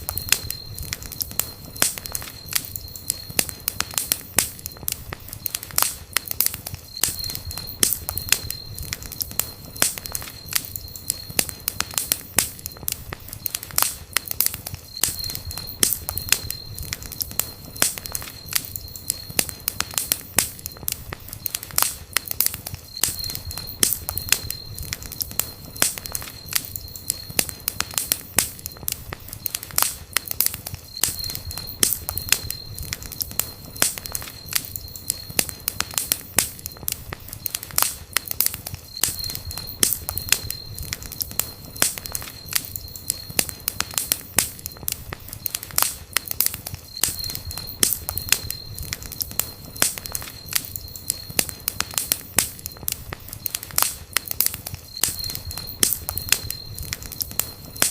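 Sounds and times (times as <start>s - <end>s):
thin high whistle: 0.0s - 13.9s, 14.5s - 21.7s, 22.5s - 36.8s, 37.4s - 57.9s
burning wood popping: 0.0s - 57.9s
low rumble of flame: 0.0s - 57.9s.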